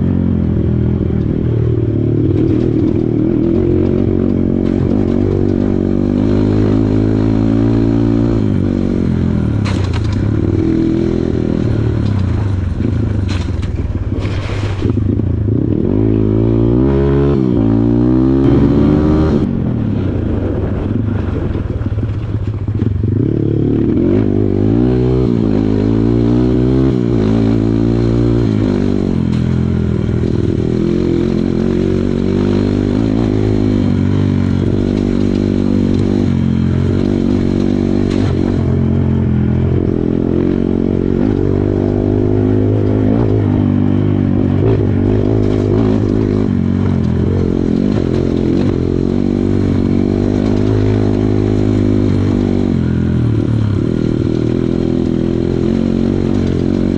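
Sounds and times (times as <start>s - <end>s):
dirt bike engine revving: 0.0s - 13.5s, 14.2s - 20.1s, 22.9s - 56.9s.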